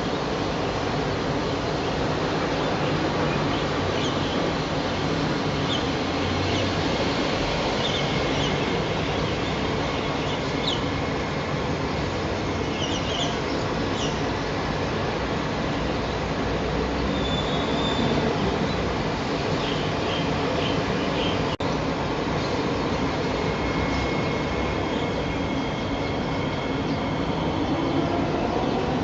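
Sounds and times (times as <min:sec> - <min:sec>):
train running along track: 0:00.0 - 0:29.0.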